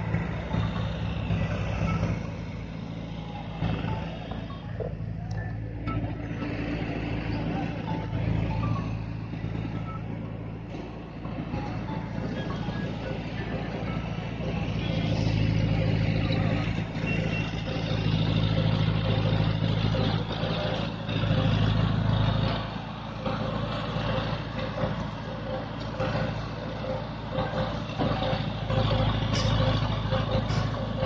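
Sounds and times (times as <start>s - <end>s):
heavy vehicle engine humming: 0.0s - 31.0s.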